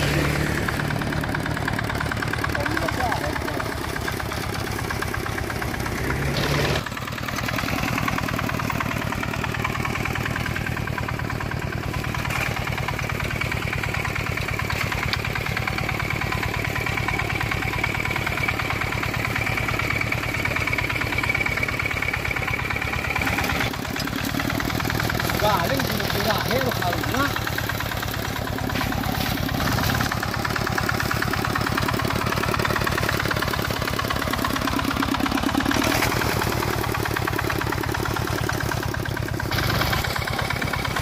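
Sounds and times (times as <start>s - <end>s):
diesel engine chugging: 0.0s - 41.0s.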